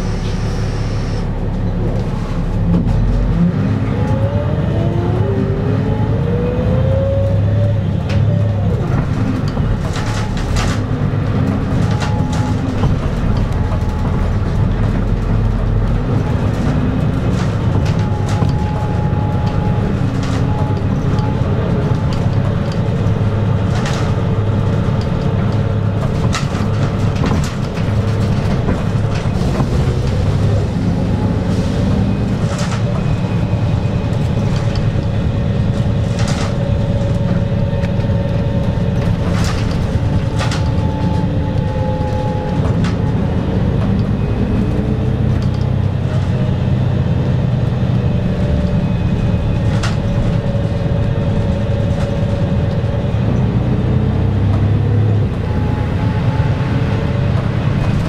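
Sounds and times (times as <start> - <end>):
bus diesel engine drone: 0.0 - 58.0
road noise: 0.0 - 58.0.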